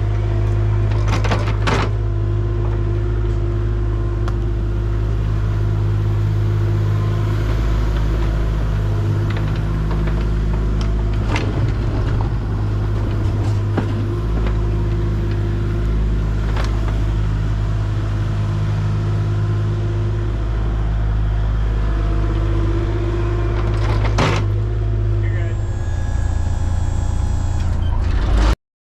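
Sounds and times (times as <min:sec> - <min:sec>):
heavy equipment engine droning: 0:00.0 - 0:28.6.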